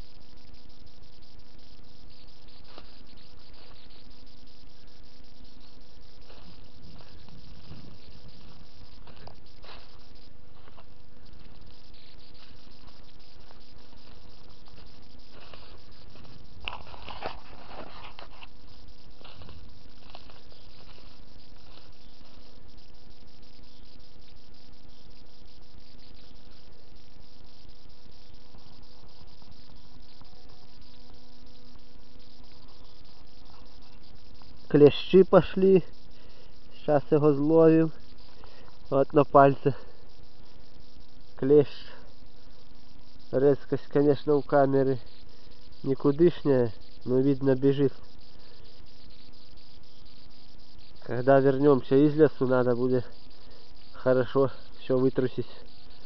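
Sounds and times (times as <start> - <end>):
microphone hiss: 0.0 - 56.0
steady electrical hum: 0.0 - 56.0.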